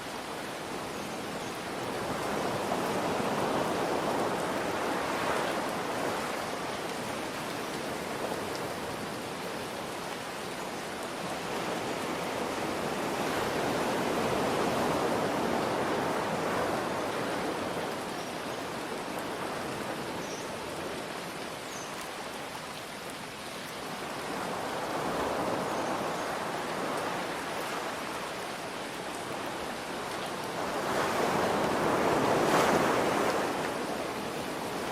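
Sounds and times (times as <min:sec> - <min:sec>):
ocean waves washing: 0:00.0 - 0:21.6, 0:23.9 - 0:34.9.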